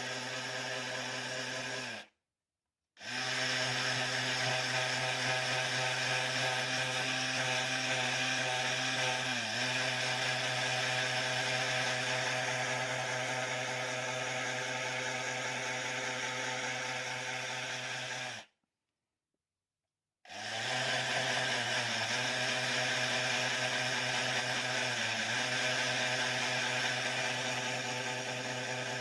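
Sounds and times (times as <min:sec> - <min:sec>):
electric power tool sanding: 0:00.0 - 0:02.1, 0:03.0 - 0:18.5, 0:20.3 - 0:29.0.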